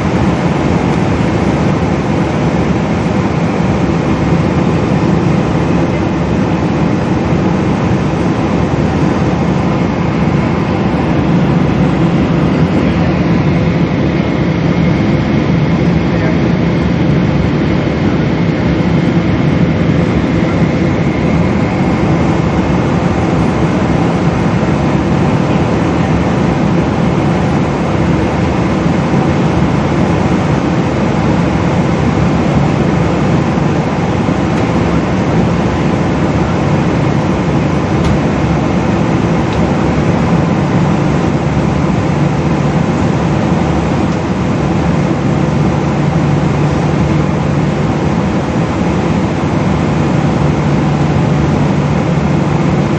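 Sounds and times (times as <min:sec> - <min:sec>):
jet engine cabin noise: 0:00.0 - 0:52.9.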